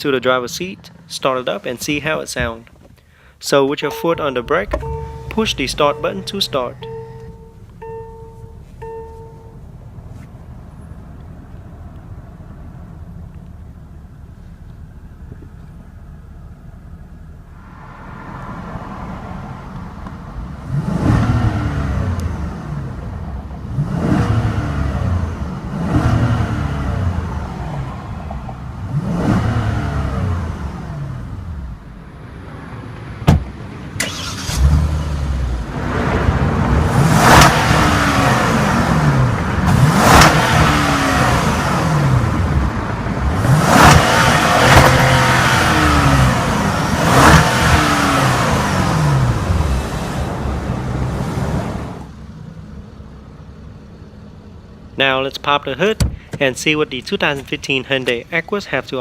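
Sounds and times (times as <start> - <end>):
car engine idling and revving: 0.0 - 3.0, 3.8 - 58.8.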